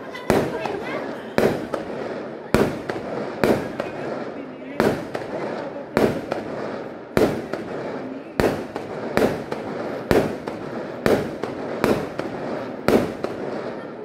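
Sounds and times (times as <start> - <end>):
fireworks bursting overhead: 0.0 - 14.0.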